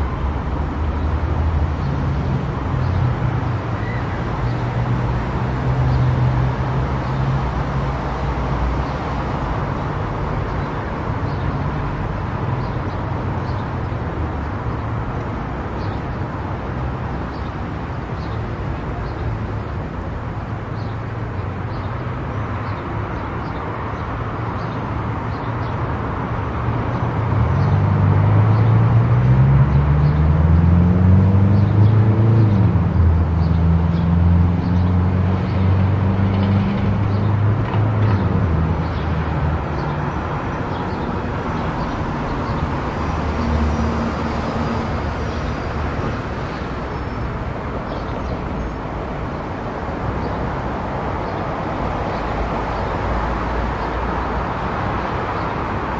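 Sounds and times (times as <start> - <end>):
car road and tyre noise: 0.0 - 55.9.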